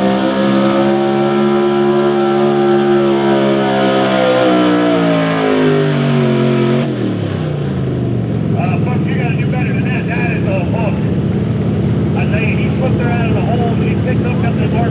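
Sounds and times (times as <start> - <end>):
pulling truck engine at full throttle: 0.0 - 14.9.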